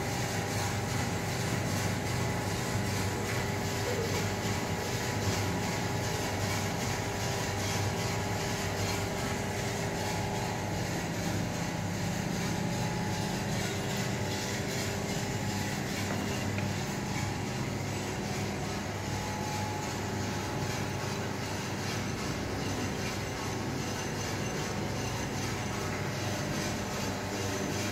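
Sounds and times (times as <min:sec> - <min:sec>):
burner and fans hissing: 0:00.0 - 0:27.9
coffee roaster mechanical hum: 0:00.0 - 0:27.9.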